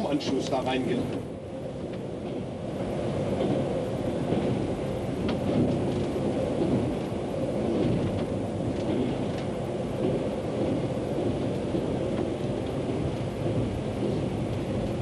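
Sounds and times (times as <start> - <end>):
faint rail clicks: 0.0 - 2.5, 3.3 - 15.0
train rumbling on track: 0.0 - 15.0.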